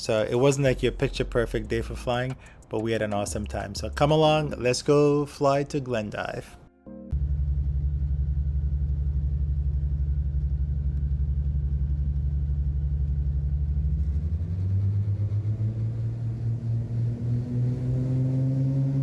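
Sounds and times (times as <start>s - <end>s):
twin piston engines droning: 0.0s - 19.0s.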